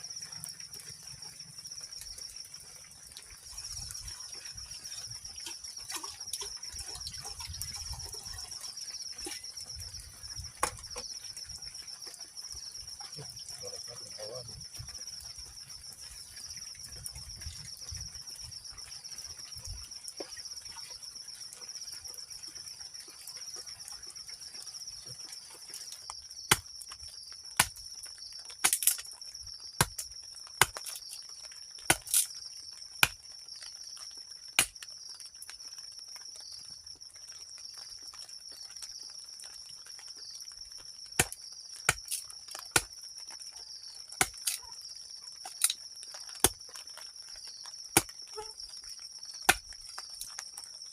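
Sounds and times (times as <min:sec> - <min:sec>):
insect chorus trilling: 0:00.0 - 0:50.9.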